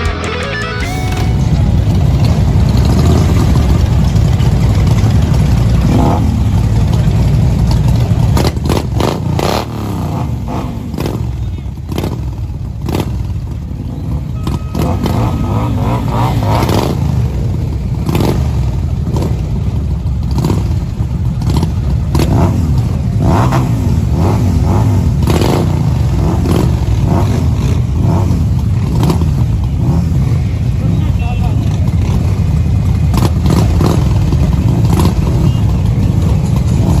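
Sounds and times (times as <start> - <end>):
many motorcycle engines rumbling: 0.0 - 37.0
engine revs and bangs: 1.1 - 30.8, 31.7 - 37.0.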